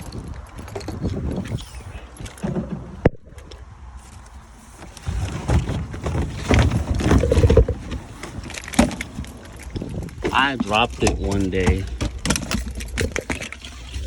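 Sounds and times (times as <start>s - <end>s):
knocks and rustling: 0.0s - 14.0s.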